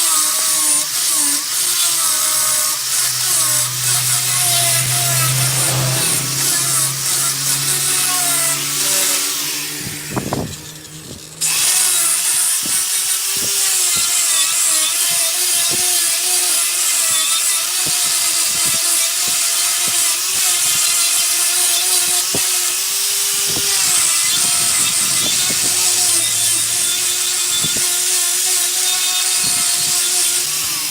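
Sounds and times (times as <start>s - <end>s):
hiss of tool cutting wood: 0.0s - 30.9s
lathe motor hum: 0.0s - 30.9s.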